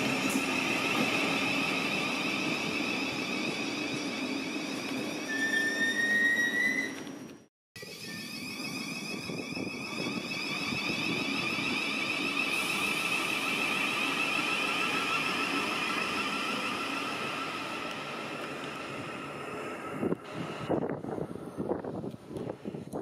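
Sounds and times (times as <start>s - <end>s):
electric train motor whine: 0.0s - 21.8s
wheels on rails: 0.0s - 23.0s.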